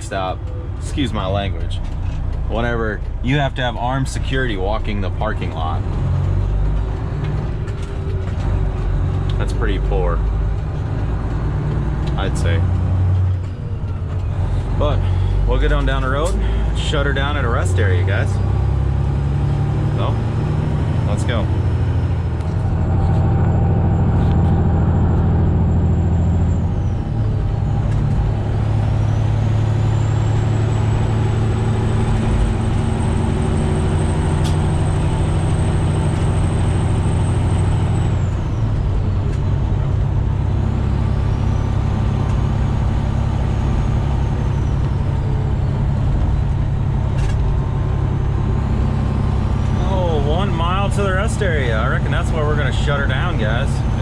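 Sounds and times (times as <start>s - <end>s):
truck diesel engine from inside cab: 0.0s - 54.0s.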